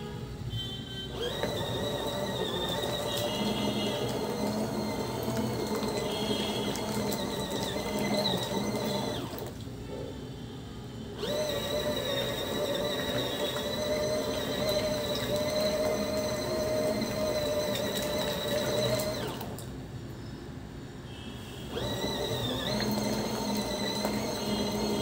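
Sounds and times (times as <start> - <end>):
washing machine motor whining: 1.1 - 9.6, 11.2 - 19.7, 21.7 - 25.0
water and clothes churning: 1.1 - 9.6, 11.2 - 19.6, 21.8 - 25.0.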